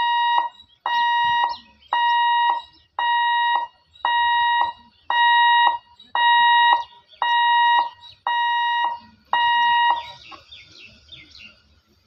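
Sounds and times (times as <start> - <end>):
level crossing warning beeps: 0.0 - 10.4.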